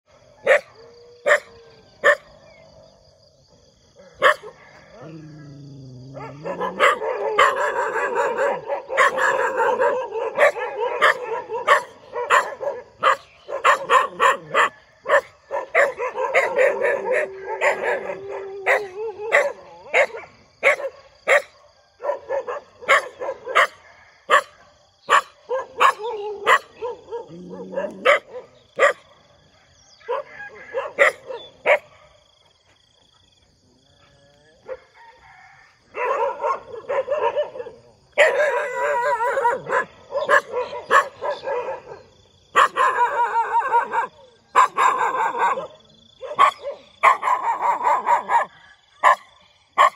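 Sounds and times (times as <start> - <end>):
dog barking: 0.4 - 2.3, 4.0 - 4.9, 6.1 - 29.1, 30.0 - 32.1, 35.9 - 49.9.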